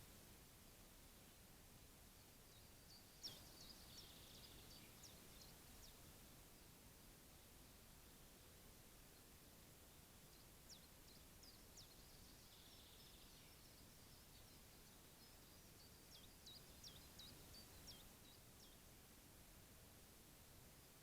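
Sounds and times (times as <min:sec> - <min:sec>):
steady low hiss: 0:00.0 - 0:21.0.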